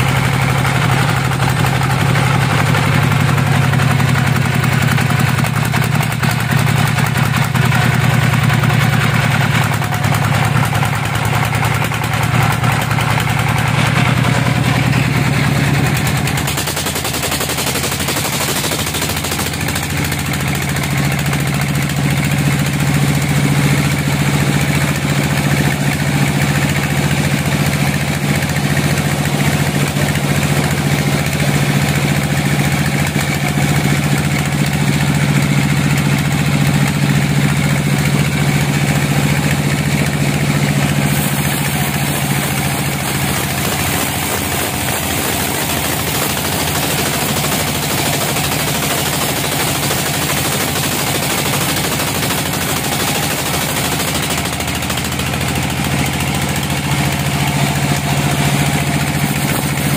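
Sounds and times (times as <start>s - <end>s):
sawmill engine humming: 0.0s - 59.9s.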